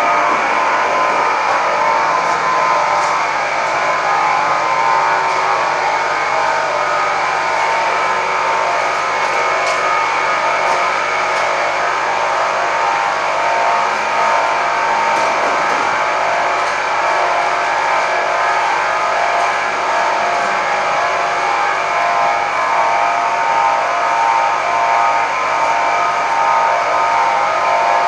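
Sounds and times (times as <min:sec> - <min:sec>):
workshop machinery drone: 0:00.0 - 0:28.0.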